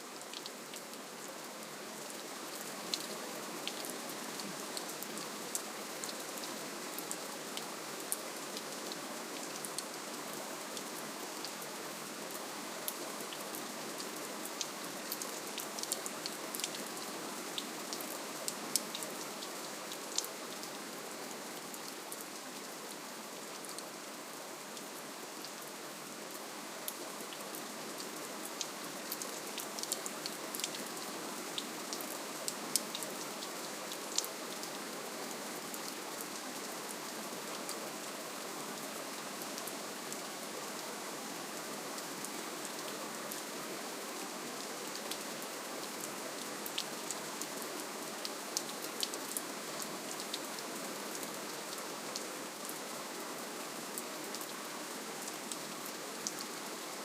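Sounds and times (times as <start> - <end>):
gentle rainfall: 0.0 - 57.0.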